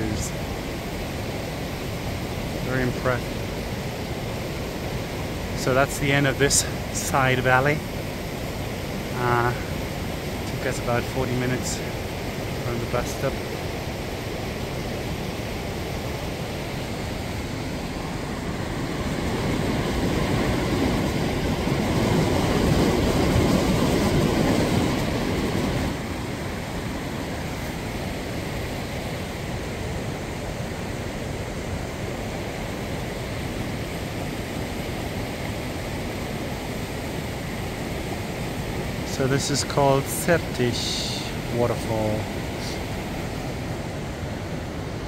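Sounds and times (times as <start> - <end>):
mountain stream and waterfall rushing: 0.0 - 45.0.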